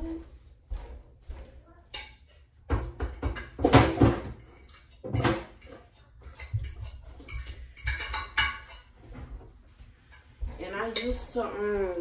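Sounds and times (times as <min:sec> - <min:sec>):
dishes and utensils clinking: 0:01.3 - 0:12.0.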